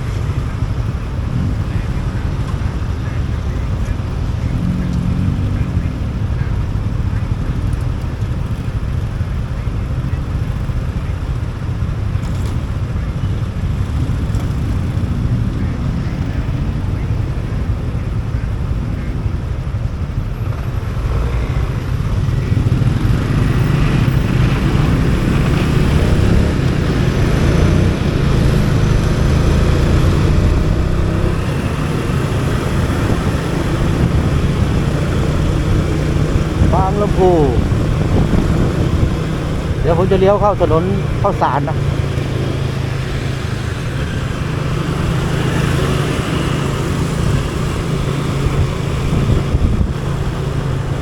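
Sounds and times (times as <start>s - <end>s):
motorcycle engine drone: 0.0s - 51.0s.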